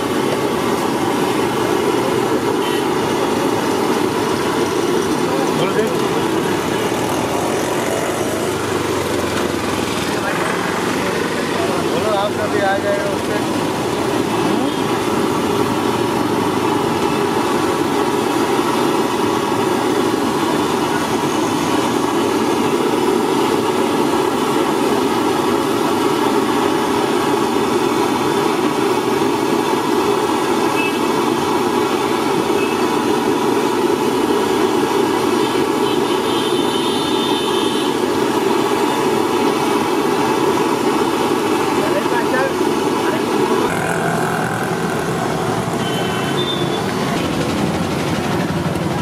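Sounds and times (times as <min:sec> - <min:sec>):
oil deep-frying and bubbling: 0:00.0 - 0:49.0.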